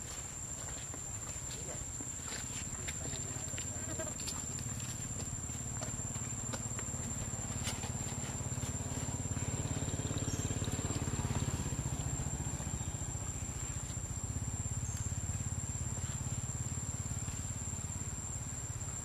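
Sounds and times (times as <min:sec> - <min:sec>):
small engine idling: 0:03.0 - 0:19.0.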